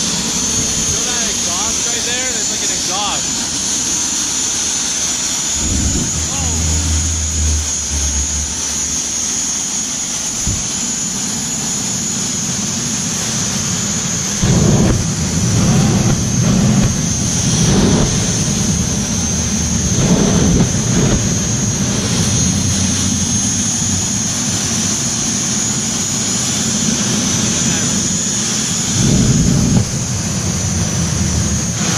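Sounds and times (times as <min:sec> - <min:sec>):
jet engine low surges: 0:00.0 - 0:31.9
jet engine turbine whine: 0:00.0 - 0:31.9.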